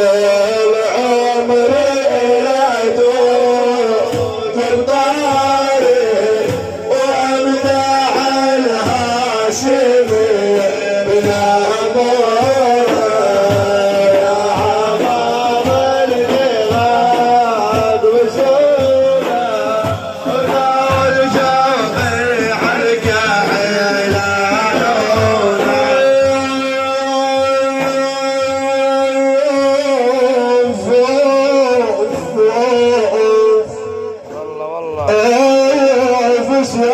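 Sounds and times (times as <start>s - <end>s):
hand drum beat: 0.0s - 36.9s
middle eastern melody: 0.0s - 36.9s.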